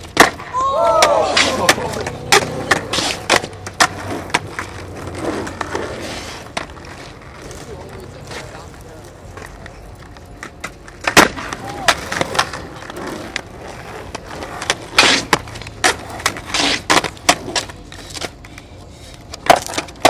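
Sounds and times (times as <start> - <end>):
skateboard clacking on concrete: 0.0 - 20.0
skateboard wheels rolling and scraping: 0.0 - 20.0.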